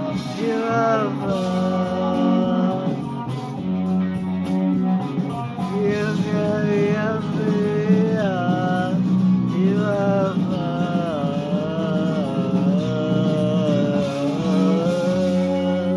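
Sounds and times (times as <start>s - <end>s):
guitar accompaniment: 0.0s - 15.9s
rock song with singing: 0.0s - 15.9s.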